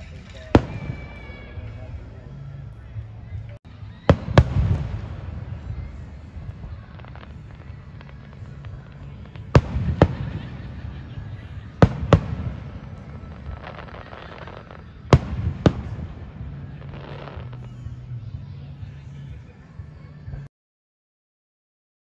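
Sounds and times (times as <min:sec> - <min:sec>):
firework crackling: 0:00.0 - 0:19.6.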